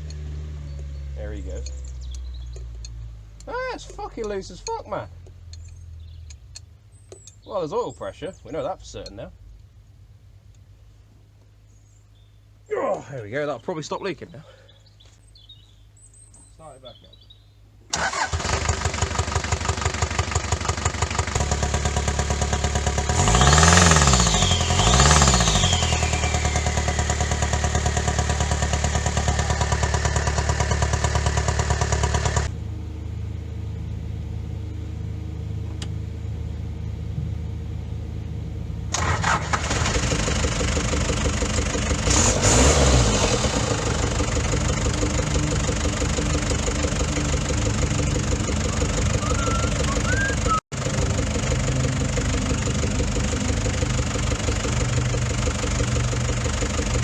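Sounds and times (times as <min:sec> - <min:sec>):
engine running and revving: 0:00.0 - 0:07.4, 0:17.9 - 0:57.0.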